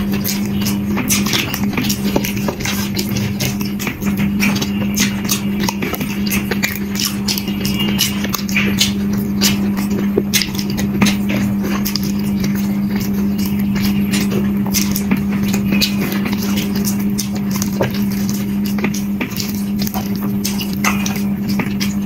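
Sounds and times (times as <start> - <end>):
steady low hum: 0.0 - 22.0
wet chewing sounds: 0.0 - 22.0.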